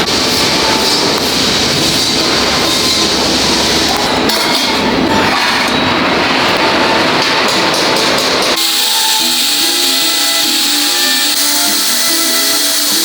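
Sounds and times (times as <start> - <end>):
factory machinery rattling and rumbling: 0.0 - 13.0.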